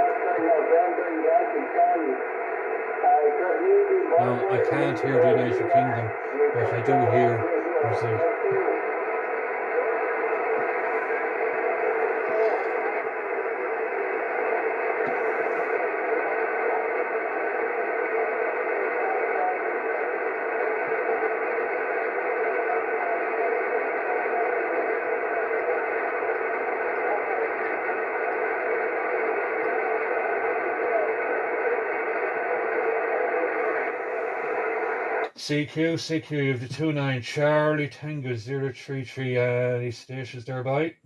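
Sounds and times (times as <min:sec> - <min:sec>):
distant radio stations: 0:00.0 - 0:40.9
radio static hiss: 0:00.0 - 0:41.0.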